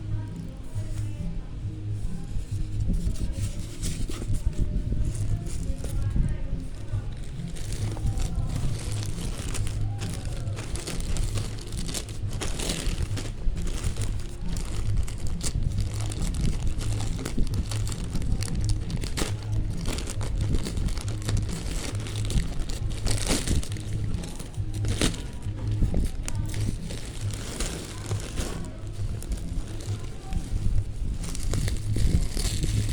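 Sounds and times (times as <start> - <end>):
plastic packaging crinkling: 1.9 - 32.9.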